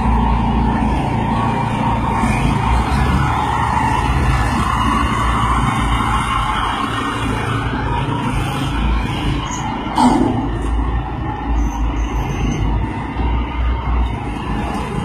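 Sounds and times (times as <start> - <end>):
low vehicle engine: 0.0 - 15.0
road rumble: 0.0 - 15.0.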